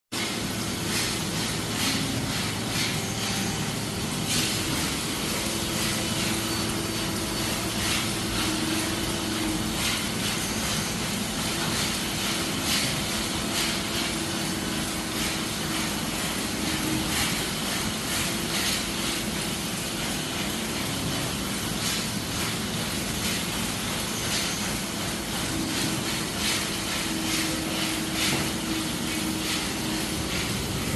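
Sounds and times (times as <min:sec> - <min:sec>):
factory machinery humming: 0:00.2 - 0:30.9
machinery clanks and clicks: 0:00.2 - 0:30.9.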